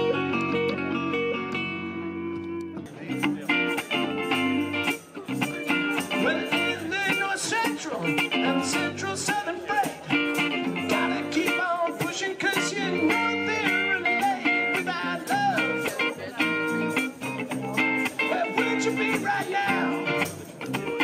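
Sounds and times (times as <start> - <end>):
bass guitar: 0.0 - 21.0
electric guitar lead: 0.0 - 21.0.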